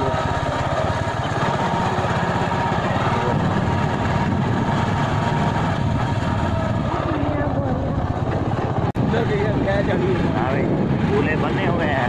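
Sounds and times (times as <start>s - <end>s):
road and wind noise: 0.0s - 12.0s
small motorcycle engine running: 0.0s - 12.0s.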